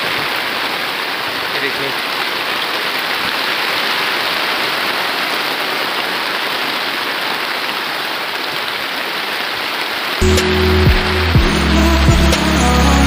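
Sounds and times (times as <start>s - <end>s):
heavy rain on wet ground: 0.0s - 13.0s.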